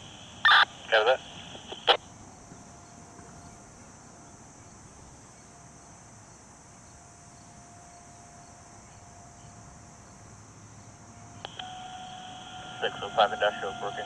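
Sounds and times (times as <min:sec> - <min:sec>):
faint steady tone: 0:00.0 - 0:14.0
high-pitched insect drone: 0:00.0 - 0:14.0.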